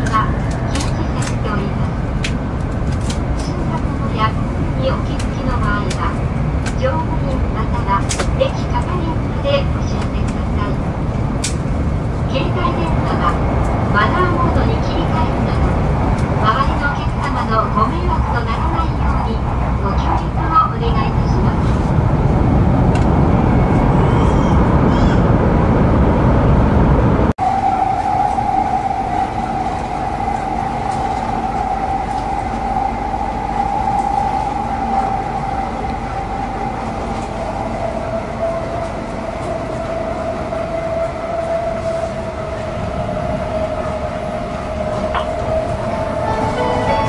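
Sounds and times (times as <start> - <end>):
train cabin whine: 0.0 - 47.0
train rumble: 0.0 - 47.0.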